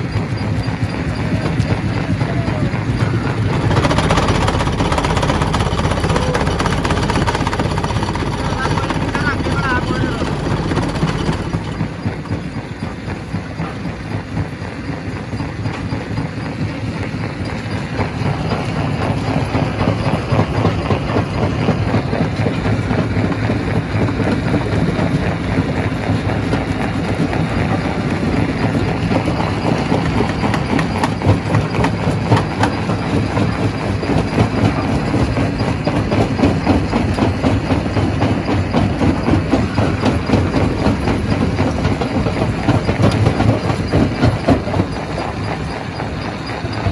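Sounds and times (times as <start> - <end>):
rocks clattering in crusher: 0.2 - 12.3, 17.5 - 46.9.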